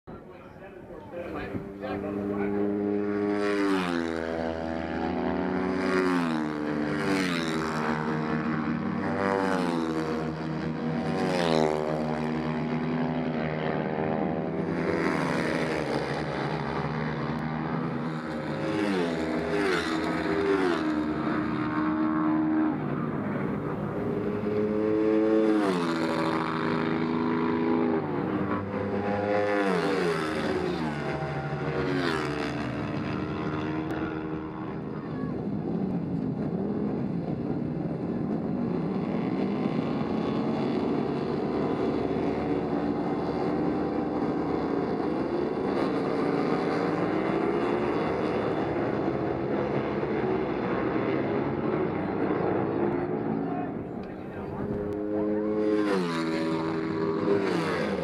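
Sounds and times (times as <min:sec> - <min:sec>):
racing motorcycles at full throttle: 0:00.2 - 0:58.0.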